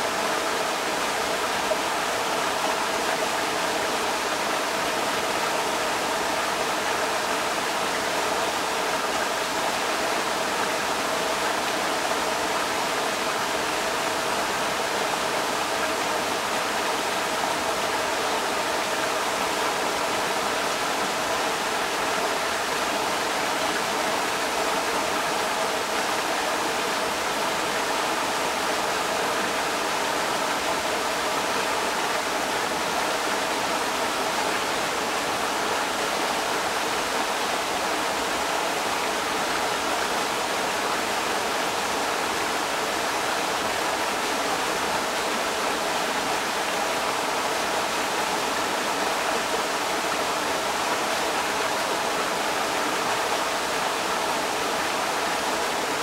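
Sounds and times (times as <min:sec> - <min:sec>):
creek water rushing over rocks: 0:00.0 - 0:56.0.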